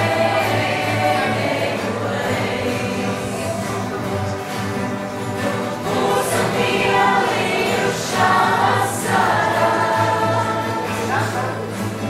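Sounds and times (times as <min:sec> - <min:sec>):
acoustic guitars playing: 0:00.0 - 0:12.0
choir singing: 0:00.0 - 0:12.0.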